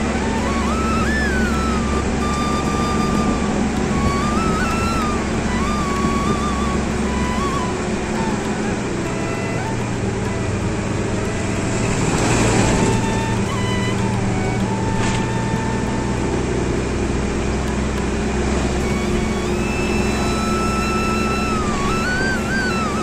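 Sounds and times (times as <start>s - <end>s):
bus engine drone: 0.0s - 23.0s
oncoming bus passing: 0.0s - 23.0s
road and wind rush: 0.0s - 23.0s.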